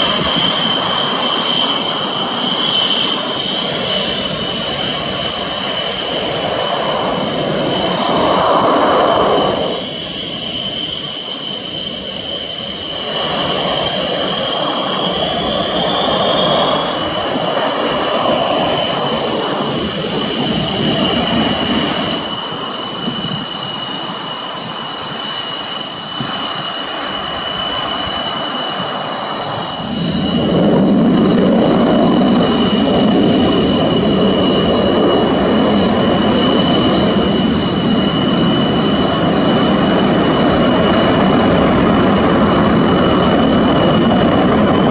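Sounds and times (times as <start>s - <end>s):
jet engine rush: 0.0s - 44.9s
jet turbine whistle: 0.0s - 44.9s.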